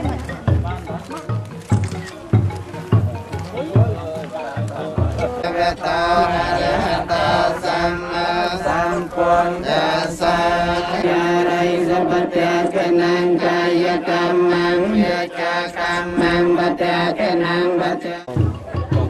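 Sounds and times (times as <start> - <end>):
voices chanting on long notes: 3.2 - 18.6.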